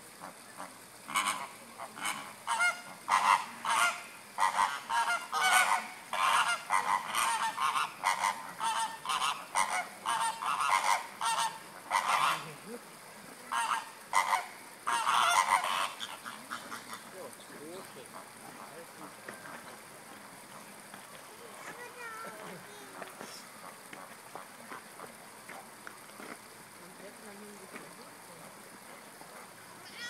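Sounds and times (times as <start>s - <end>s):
flamingos honking: 0.2s - 25.8s.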